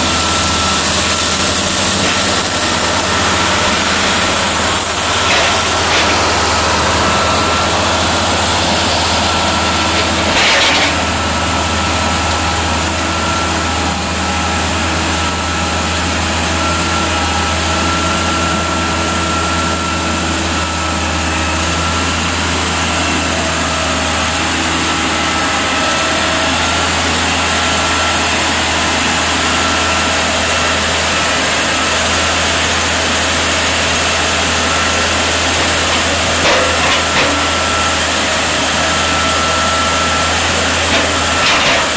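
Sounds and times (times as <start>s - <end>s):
crane diesel engine running: 0.0s - 41.9s.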